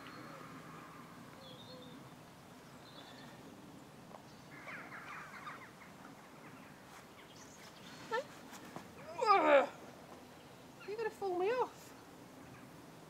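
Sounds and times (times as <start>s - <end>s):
faint birdsong chirps: 0.0s - 13.0s
quiet outdoor background noise: 0.0s - 13.0s.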